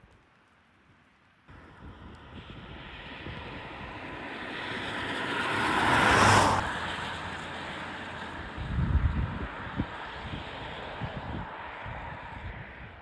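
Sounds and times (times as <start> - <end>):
quiet road noise: 0.0 - 13.0
car passing on wet road: 1.5 - 13.0.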